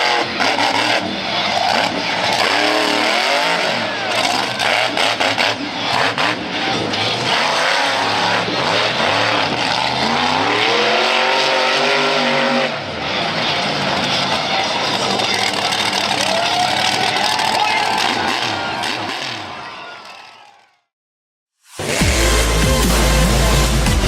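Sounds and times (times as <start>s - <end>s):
monster truck engine revving: 0.0s - 20.5s, 21.7s - 24.0s.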